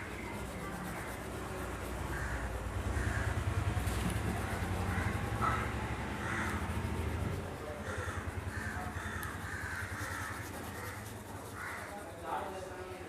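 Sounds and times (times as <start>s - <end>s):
crayon rubbing on paper: 0.0s - 12.9s
crows cawing: 0.1s - 12.6s.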